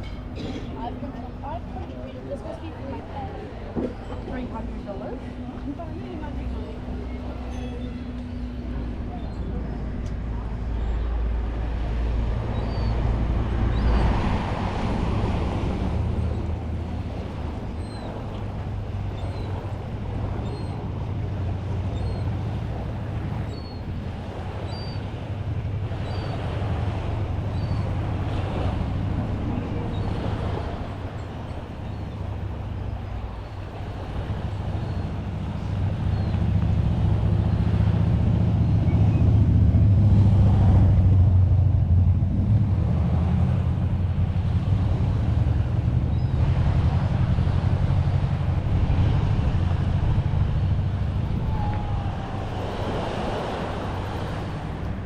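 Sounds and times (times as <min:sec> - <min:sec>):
vehicle engine hum: 0:00.0 - 0:55.0.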